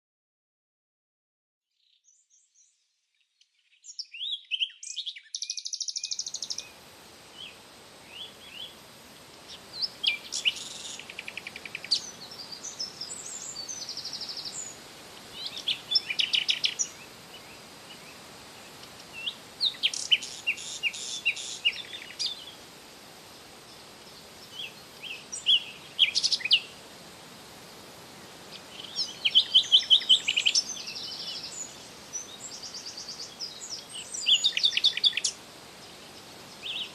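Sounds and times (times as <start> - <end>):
songbird chirps and trills: 1.8 - 36.9
steady background hiss: 3.8 - 36.9.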